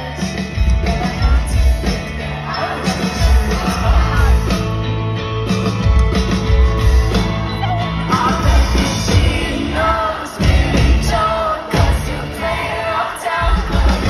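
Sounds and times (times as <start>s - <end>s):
live band with singer: 0.0s - 14.0s.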